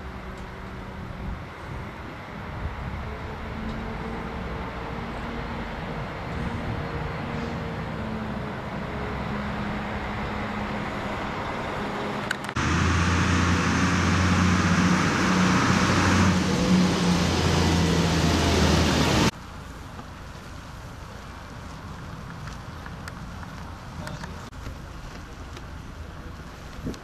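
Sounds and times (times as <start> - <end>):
truck engine drone close by: 0.0 - 22.0
diesel truck engines humming: 0.0 - 26.9
tyre and road noise: 0.0 - 27.0.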